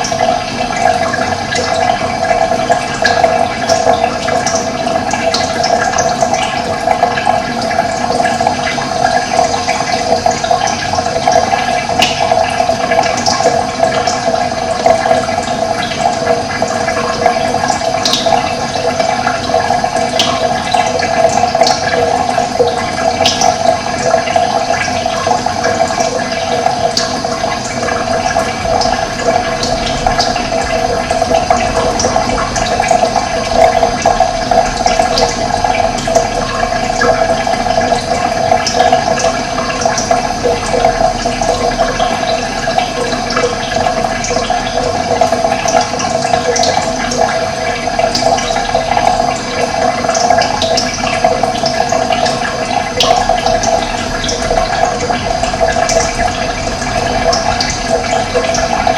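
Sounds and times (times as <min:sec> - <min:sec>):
running water flowing: 0:00.0 - 0:58.9.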